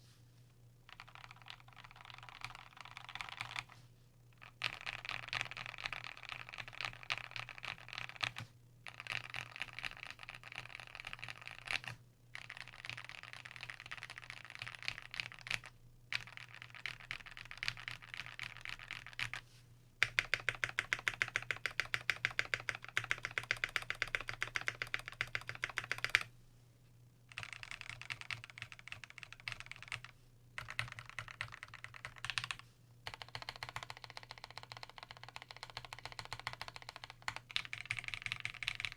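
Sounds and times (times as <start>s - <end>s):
mechanical keyboard typing: 0.9s - 3.8s, 4.4s - 19.4s, 20.0s - 26.3s, 27.3s - 38.9s.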